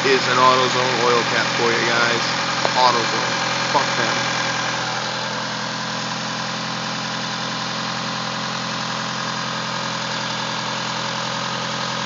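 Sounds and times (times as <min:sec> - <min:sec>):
car engine idling: 0:00.0 - 0:12.0
engine knocking: 0:00.0 - 0:12.0.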